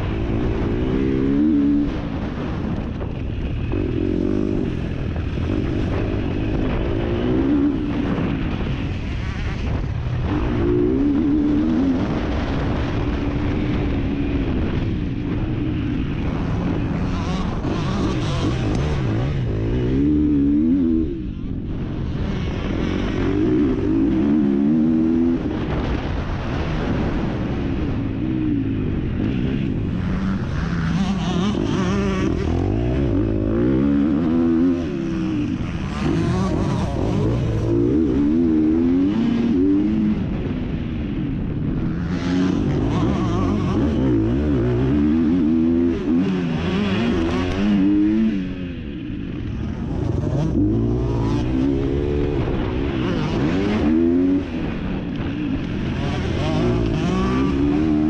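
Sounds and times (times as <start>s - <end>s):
motocross bike engine revving: 0.0s - 40.9s, 41.6s - 58.0s.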